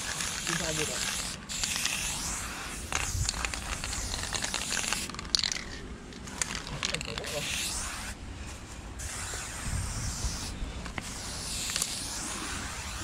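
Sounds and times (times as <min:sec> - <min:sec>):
spray-paint can hissing: 0:00.0 - 0:08.2, 0:09.0 - 0:13.0.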